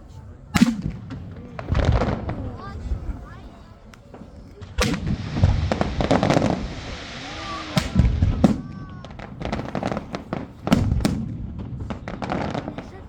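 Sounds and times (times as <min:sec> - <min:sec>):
fireworks crackling: 0:00.0 - 0:13.0
firecracker and rocket bangs: 0:00.5 - 0:03.0, 0:04.1 - 0:13.0.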